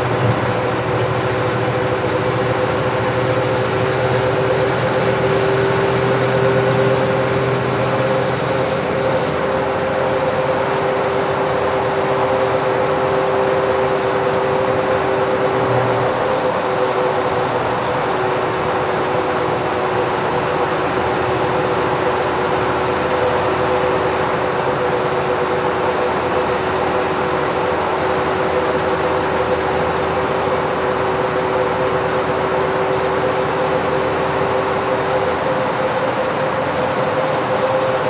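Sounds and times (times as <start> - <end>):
truck engine and road drone: 0.0 - 38.0.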